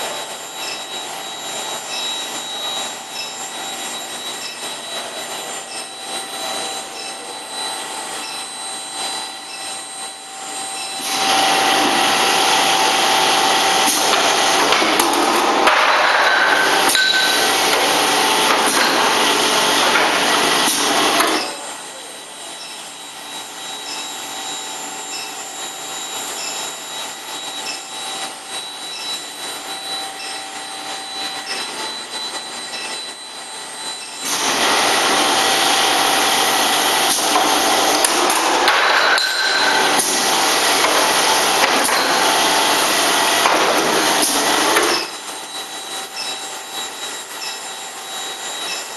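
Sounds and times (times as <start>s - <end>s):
machine high-pitched whining tones: 0.0s - 48.9s.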